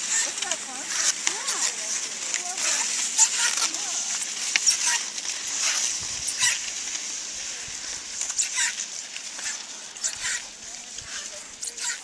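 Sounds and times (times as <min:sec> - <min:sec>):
ski poles crunching into snow: 0:00.0 - 0:12.0
skis hissing on snow: 0:00.0 - 0:12.0.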